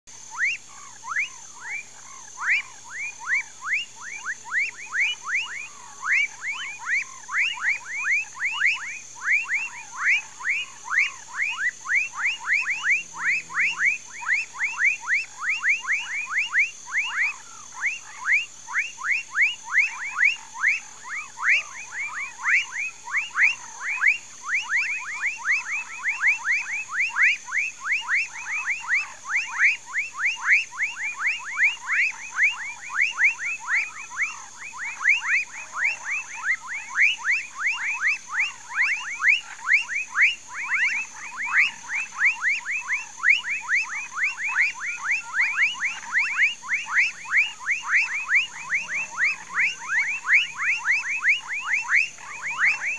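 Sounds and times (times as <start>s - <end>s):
chorus of frogs calling: 0.1s - 52.9s.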